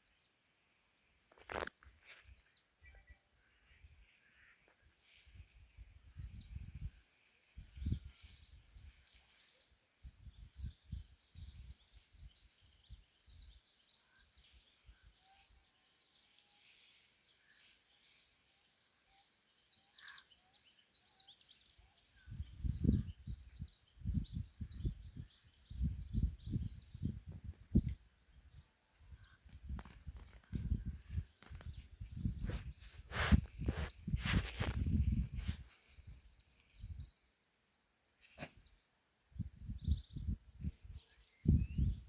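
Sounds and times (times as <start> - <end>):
small birds chirping: 1.1 - 42.0.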